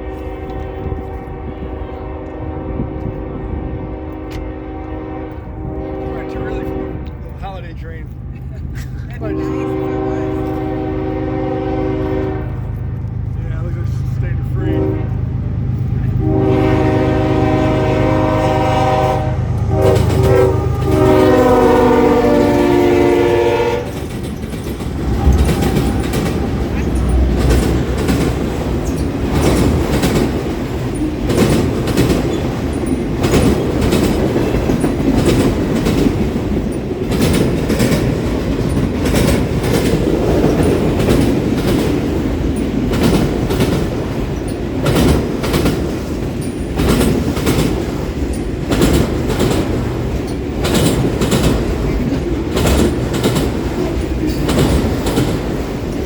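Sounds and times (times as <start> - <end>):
freight train wheels clicking on rails: 0.0 - 56.0
train rumble: 0.0 - 56.0.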